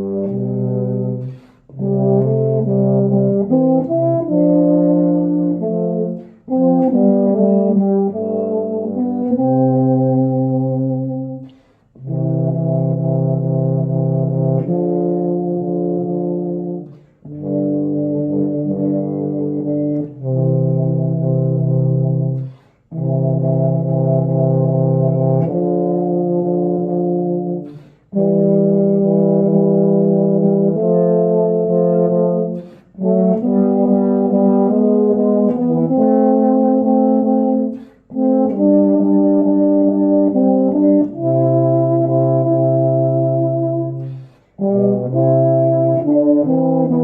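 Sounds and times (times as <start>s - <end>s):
euphoniums playing a hymn: 0.0s - 47.0s.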